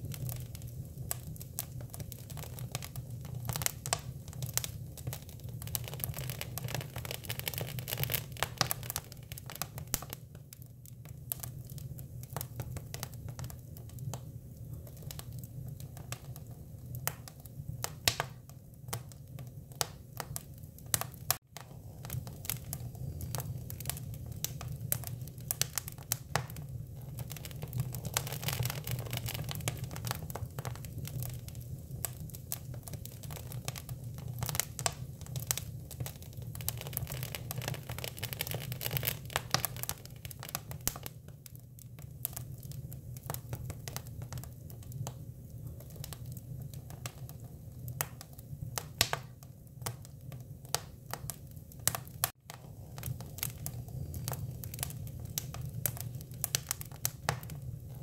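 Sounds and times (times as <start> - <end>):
burning wood crackling: 0.0 - 58.0.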